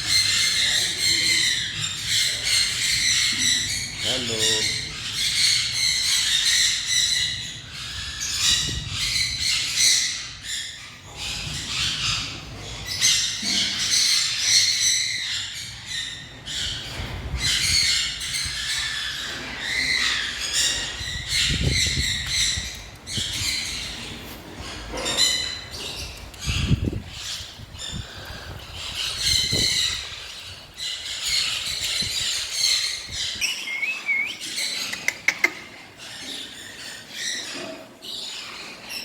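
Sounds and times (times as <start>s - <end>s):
caged birds chirping and squawking: 0.0s - 39.0s.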